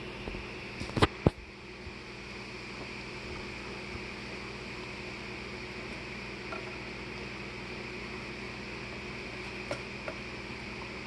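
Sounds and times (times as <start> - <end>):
room noise hiss and hum: 0.0 - 11.0.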